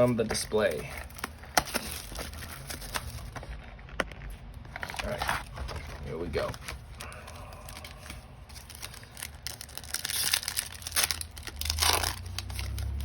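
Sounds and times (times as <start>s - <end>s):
wrapper tearing and crinkling: 0.0s - 3.7s, 4.7s - 13.0s.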